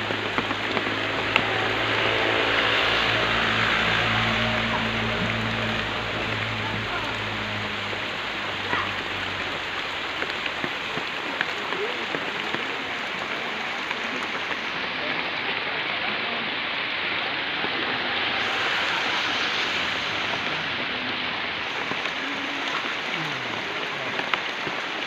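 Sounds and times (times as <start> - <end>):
falling water hissing: 0.0 - 25.0.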